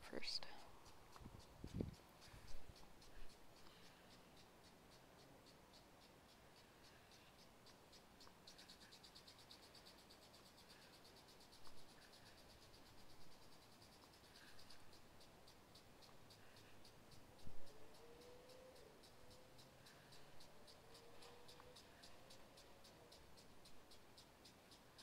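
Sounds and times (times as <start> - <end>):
crickets chirping: 0.4 - 25.0.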